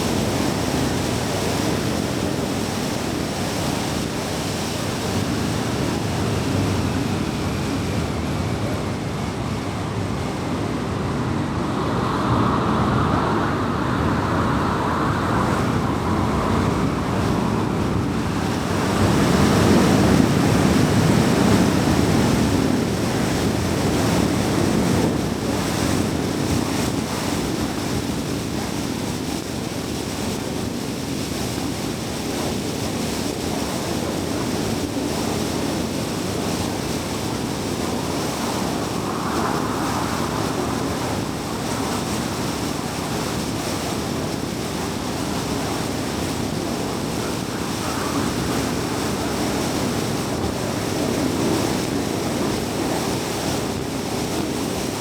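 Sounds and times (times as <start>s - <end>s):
car tyre and wind noise: 0.0s - 55.0s.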